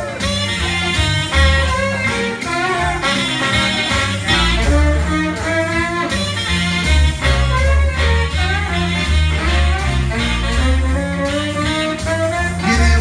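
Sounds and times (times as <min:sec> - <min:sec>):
saxophone melody: 0:00.0 - 0:13.0
stepping bass line: 0:00.0 - 0:13.0.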